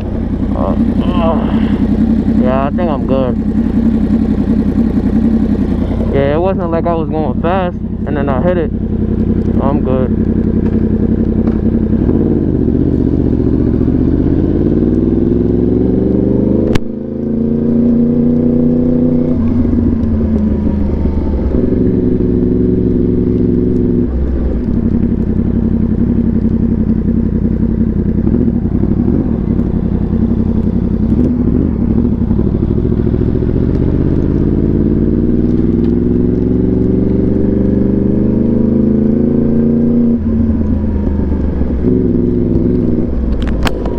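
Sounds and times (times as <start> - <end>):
exhaust crack: 0.0 - 43.9
motorcycle engine accelerating: 0.0 - 43.9.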